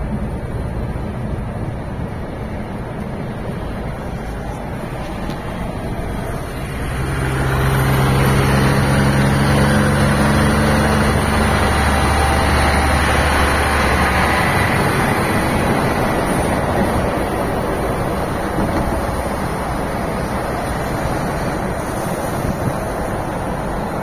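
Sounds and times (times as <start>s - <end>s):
diesel engine running: 0.0s - 24.0s
road and wind noise: 0.0s - 24.0s.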